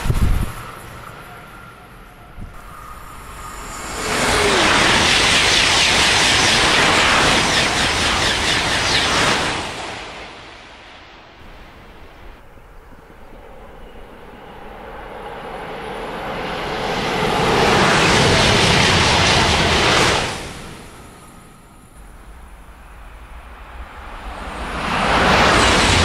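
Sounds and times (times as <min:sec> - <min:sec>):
high-speed train rushing past: 0:00.0 - 0:26.0.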